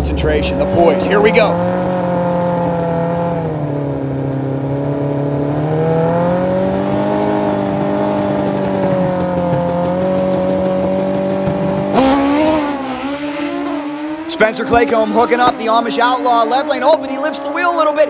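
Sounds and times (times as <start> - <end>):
drag bike engines revving: 0.0 - 18.0.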